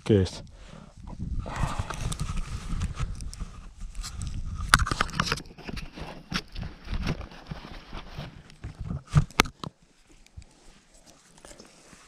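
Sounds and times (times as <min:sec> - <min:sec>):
hands scraping dry soil: 0:01.5 - 0:12.0.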